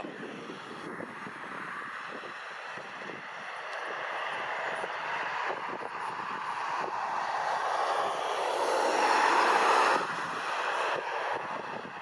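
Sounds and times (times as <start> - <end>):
jet engines whooshing: 0.0 - 12.0.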